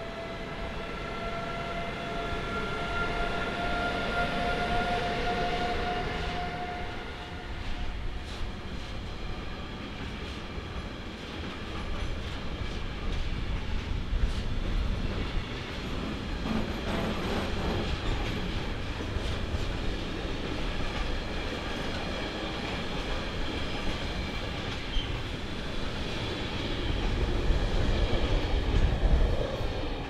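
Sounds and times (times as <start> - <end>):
train wagons rumbling on rails: 3.0 - 30.0.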